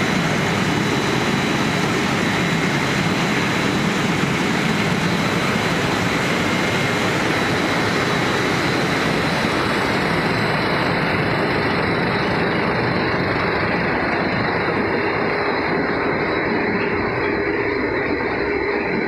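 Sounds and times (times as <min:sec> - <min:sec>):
faint machine whines: 0:00.0 - 0:19.0
loud machinery din: 0:00.0 - 0:19.0.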